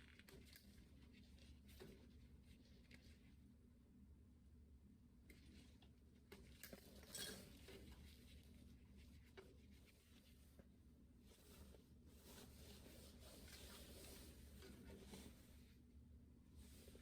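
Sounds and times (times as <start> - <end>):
faint clicks and rustles of wires: 0.0 - 3.9, 5.0 - 17.0.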